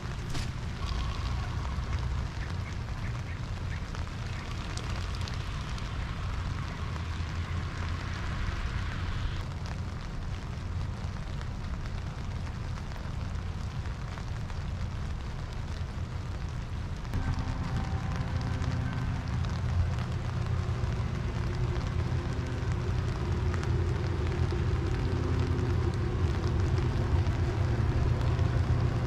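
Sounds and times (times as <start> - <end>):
steady rain falling: 0.0 - 29.0
wind rumble on microphone: 0.0 - 29.0.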